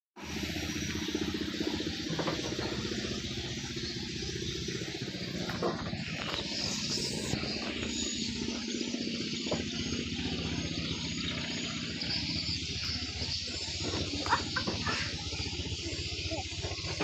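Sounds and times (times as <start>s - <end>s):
boat engine running: 0.2s - 17.0s
wind: 0.2s - 17.0s.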